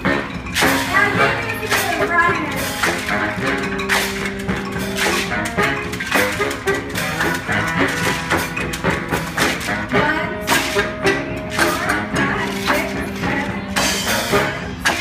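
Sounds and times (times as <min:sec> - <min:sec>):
percussion hits: 0:00.0 - 0:15.0
saxophones and horns: 0:00.0 - 0:15.0.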